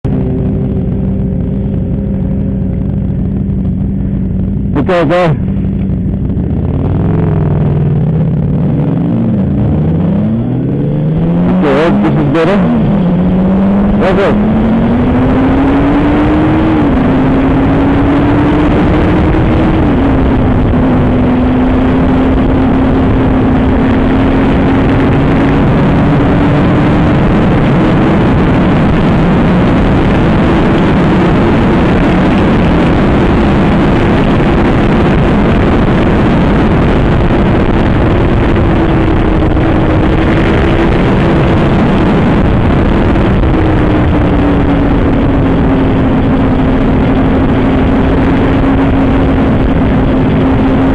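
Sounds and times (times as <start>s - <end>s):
heavy wind rush on microphone: 0.0s - 50.9s.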